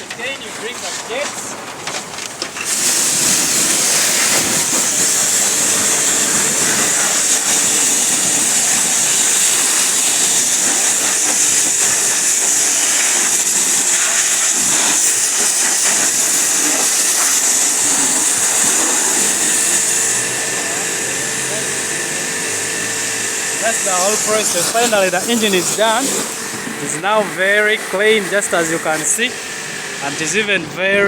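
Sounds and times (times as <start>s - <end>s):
pressure washer water jet spraying: 2.2s - 30.6s.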